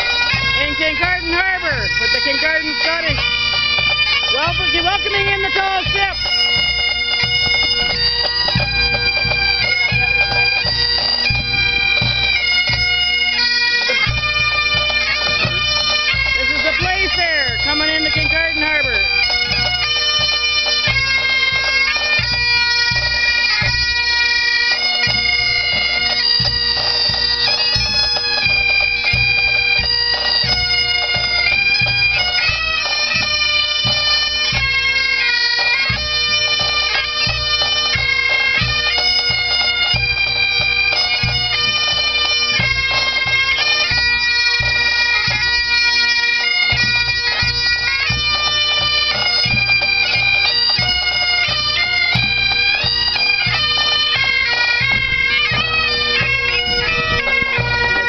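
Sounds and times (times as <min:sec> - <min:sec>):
bagpipe band playing: 0:00.0 - 0:58.0.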